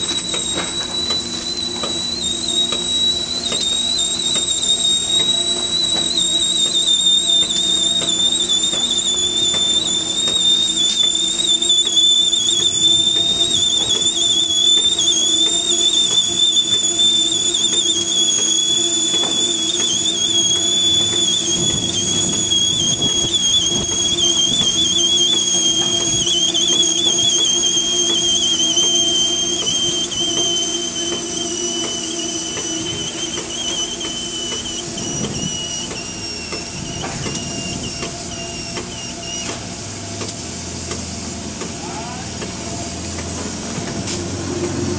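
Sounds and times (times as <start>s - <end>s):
steam locomotive whistling whine: 0.0s - 44.9s.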